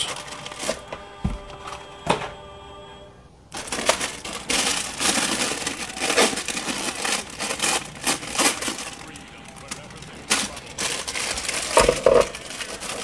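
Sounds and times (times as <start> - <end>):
plastic packaging crinkling: 0.0 - 1.9, 3.5 - 13.0.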